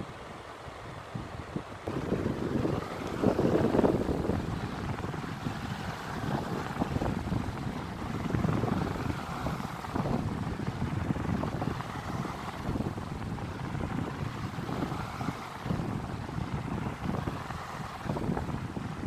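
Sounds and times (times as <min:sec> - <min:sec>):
electric fan whooshing: 0:00.0 - 0:19.0.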